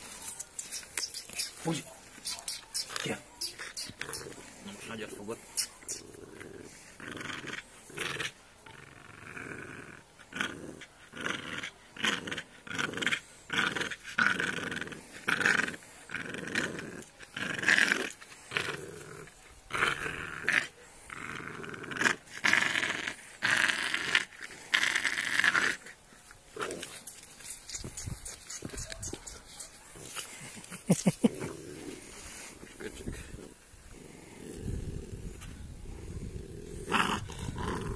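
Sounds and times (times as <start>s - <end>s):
puppy growling: 0.4s - 37.9s.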